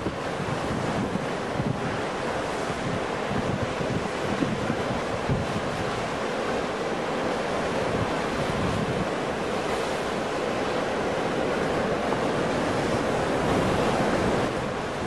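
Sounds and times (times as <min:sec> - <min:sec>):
waves breaking: 0:00.0 - 0:15.0.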